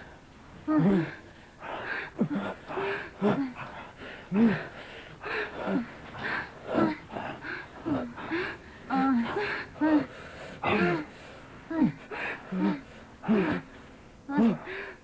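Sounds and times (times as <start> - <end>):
couple moaning and gasping: 0.0 - 15.0.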